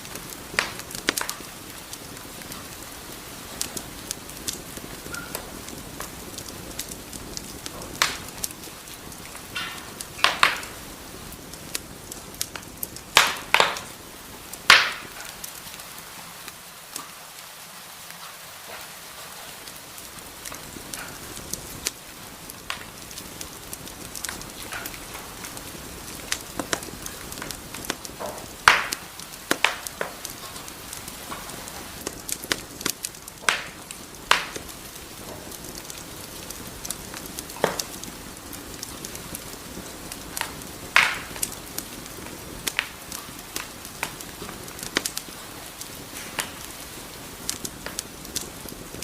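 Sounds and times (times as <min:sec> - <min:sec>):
wood fire crackling in fireplace: 0:00.0 - 0:49.0.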